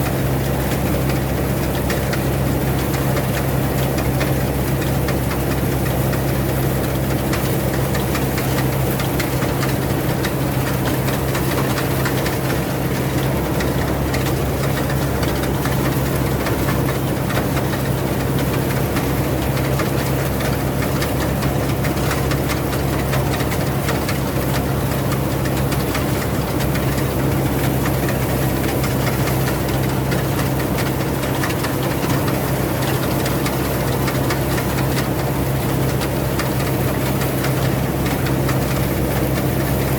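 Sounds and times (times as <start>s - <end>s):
harvester engine drone: 0.0s - 39.9s.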